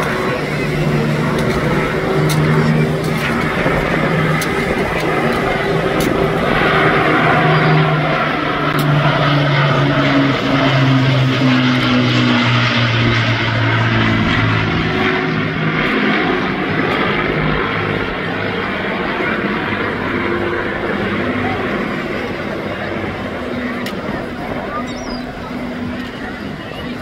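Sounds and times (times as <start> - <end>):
propeller aircraft flying past: 0.0 - 27.0.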